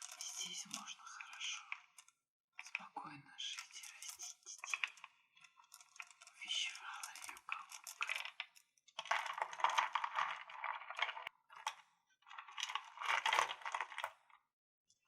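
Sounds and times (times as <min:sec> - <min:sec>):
crystals clinking and rattling: 0:00.0 - 0:02.8, 0:03.4 - 0:14.3.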